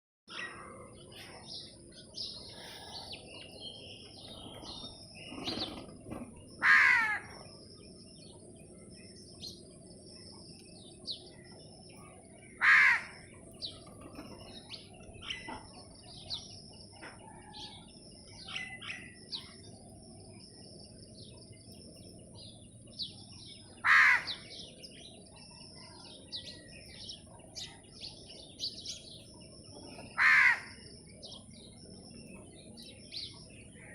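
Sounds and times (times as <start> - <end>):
harsh bird calls: 0.3 - 9.0, 10.9 - 19.8, 23.2 - 33.9
sparrows chirping: 0.3 - 33.9.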